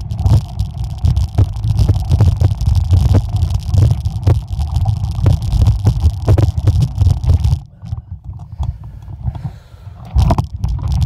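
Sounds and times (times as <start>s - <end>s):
bike knocking and rattling: 0.0s - 11.0s.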